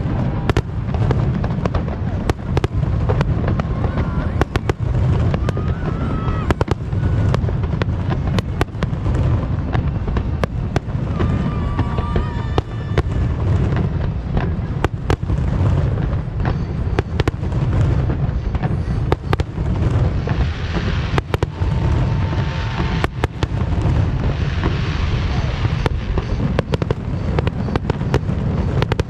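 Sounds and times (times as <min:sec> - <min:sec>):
fireworks bangs: 0:00.0 - 0:29.0
fireworks whistling: 0:00.0 - 0:29.0
low rumble of shells bursting: 0:00.0 - 0:29.0.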